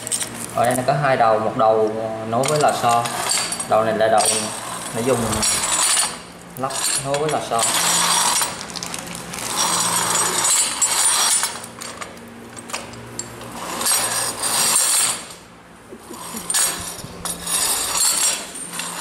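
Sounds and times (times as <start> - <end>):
metal parts clinking and rattling: 2.4 - 15.4, 16.2 - 19.0.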